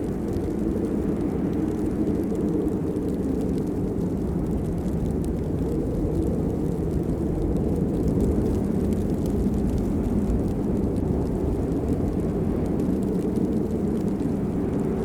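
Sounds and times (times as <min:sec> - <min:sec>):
rain drop ticks: 0:00.0 - 0:15.0
steady rain: 0:00.0 - 0:15.0.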